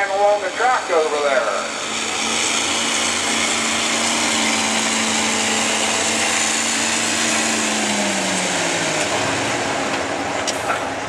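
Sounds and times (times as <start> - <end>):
truck engine revving hard: 0.0 - 11.0.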